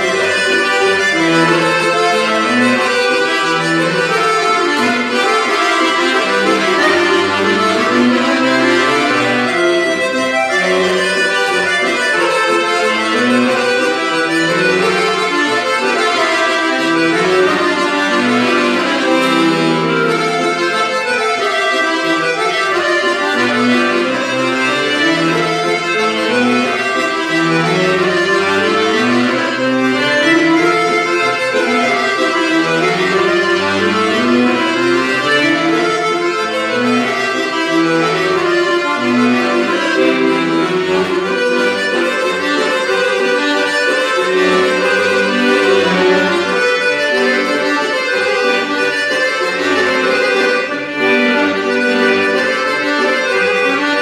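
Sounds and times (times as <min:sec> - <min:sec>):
piano accordions playing dance tune: 0:00.0 - 0:54.0.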